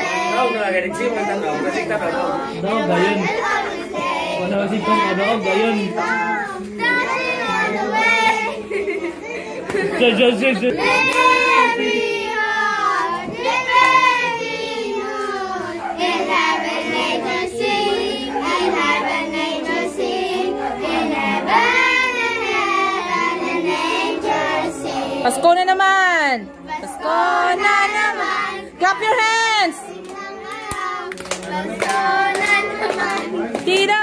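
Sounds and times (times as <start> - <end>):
children singing a carol: 0.0 - 25.6, 26.6 - 33.5.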